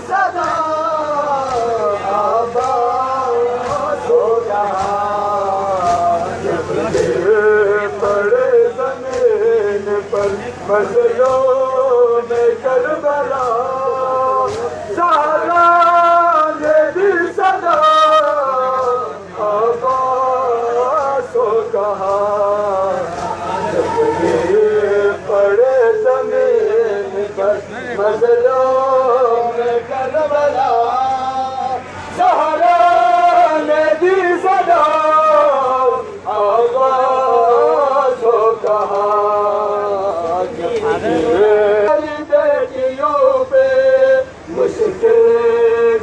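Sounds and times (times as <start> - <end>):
man chanting through loudspeakers: 0.0 - 46.0.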